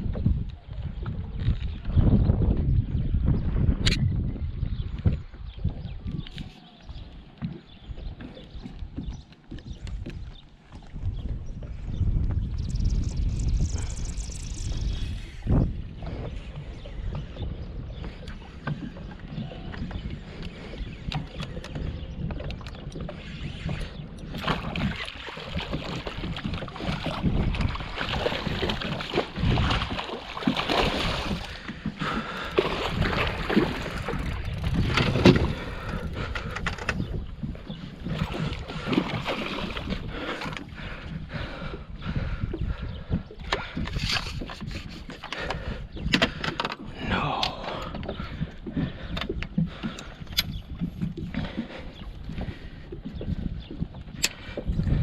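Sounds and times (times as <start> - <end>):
knocks and clicks on boat: 0.0 - 2.8, 3.4 - 55.0.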